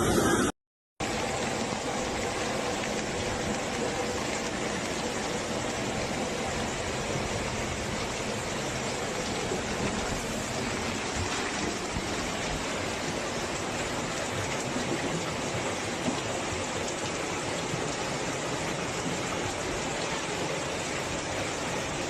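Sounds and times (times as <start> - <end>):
heavy rain and floodwater rushing: 0.0 - 22.0.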